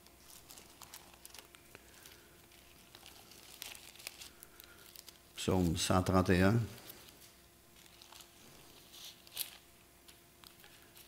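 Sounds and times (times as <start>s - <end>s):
thin pages being turned: 0.0s - 5.9s, 6.8s - 11.0s
faint steady hum: 0.0s - 11.0s.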